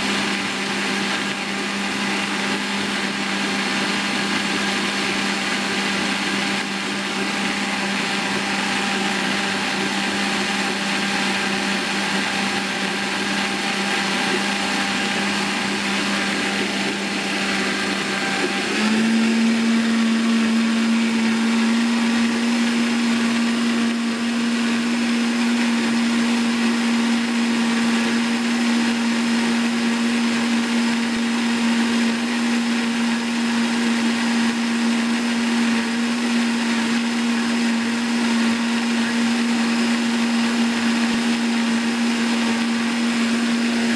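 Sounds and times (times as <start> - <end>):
blender running: 0.0 - 43.9.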